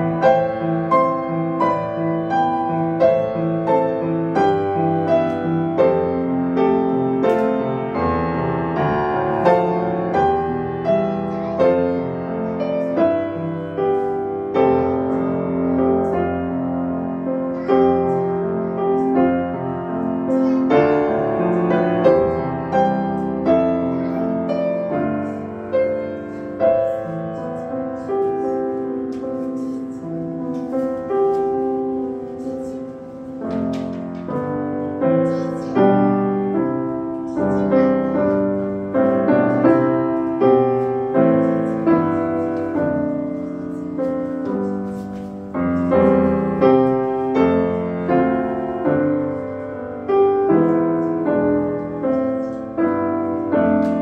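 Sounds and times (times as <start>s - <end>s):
solo grand piano: 0.0s - 54.0s.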